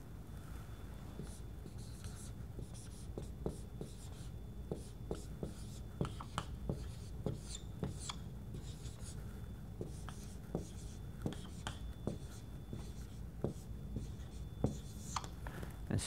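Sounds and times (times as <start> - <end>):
marker writing on whiteboard: 1.2 - 9.2, 9.8 - 15.3.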